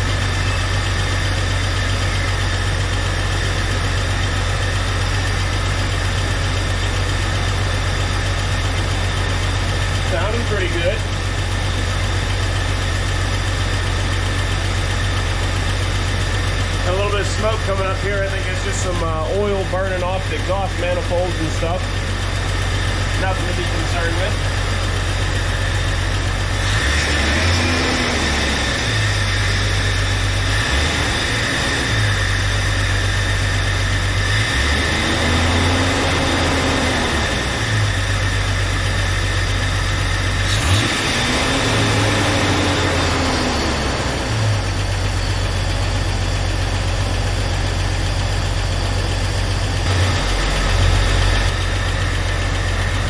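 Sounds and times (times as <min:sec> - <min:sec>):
car engine idling: 0:00.0 - 0:53.0
engine revving: 0:00.0 - 0:53.0.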